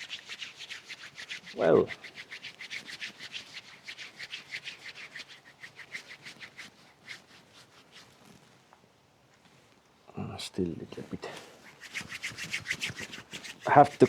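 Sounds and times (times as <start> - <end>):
hands rubbing and scrubbing: 0.0 - 8.7, 11.1 - 14.0.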